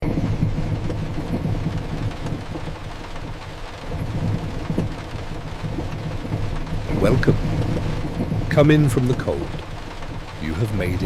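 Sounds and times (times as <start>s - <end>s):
heavy rain: 0.0s - 11.0s
low rumble: 0.0s - 11.0s.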